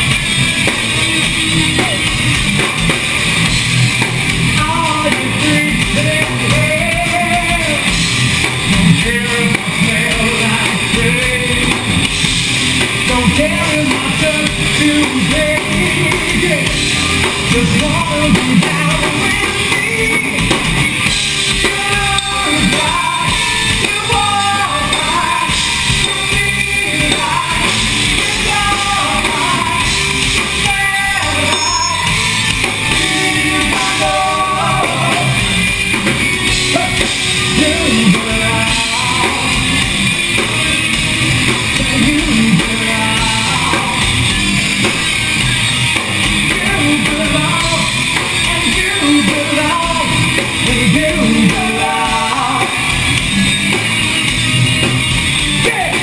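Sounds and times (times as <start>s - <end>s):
drum kit: 0.0s - 56.0s
electric guitars: 0.0s - 56.0s.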